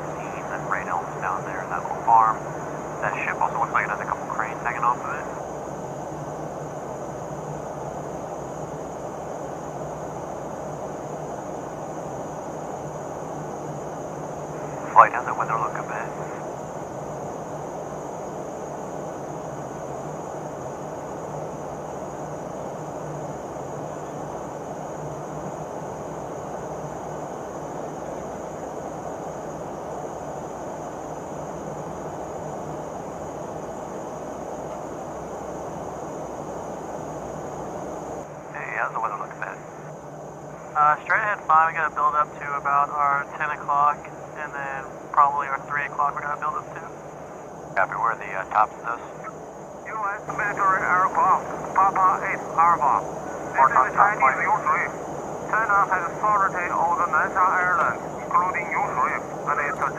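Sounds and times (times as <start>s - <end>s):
aircraft cabin engine drone: 0.0s - 59.9s
faint high whine: 0.0s - 59.9s
low hum: 0.0s - 59.9s.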